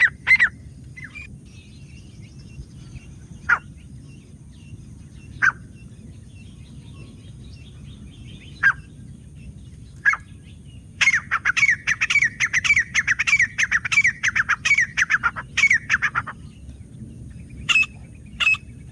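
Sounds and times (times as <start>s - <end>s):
francolin calling: 0.0s - 16.6s, 17.4s - 18.7s.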